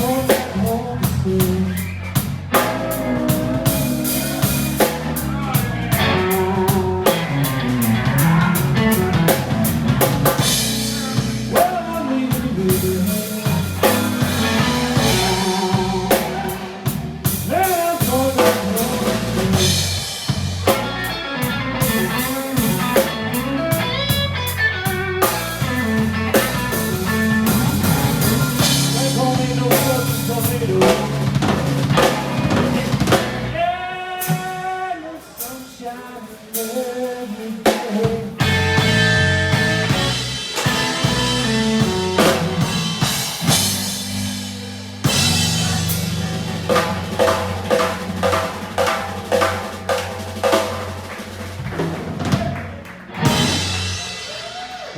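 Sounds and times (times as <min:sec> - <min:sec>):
live blues band playing: 0:00.0 - 0:54.9
drum kit hits: 0:02.2 - 0:11.8, 0:12.4 - 0:33.6, 0:38.0 - 0:54.9.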